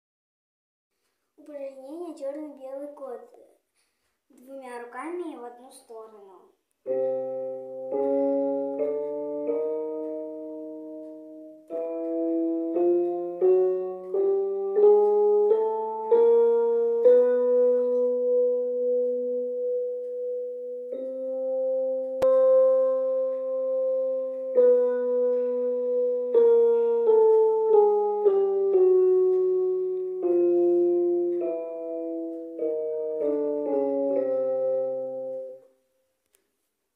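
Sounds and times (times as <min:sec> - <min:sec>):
electronic keyboard piano exercise: 0:04.4 - 0:36.2.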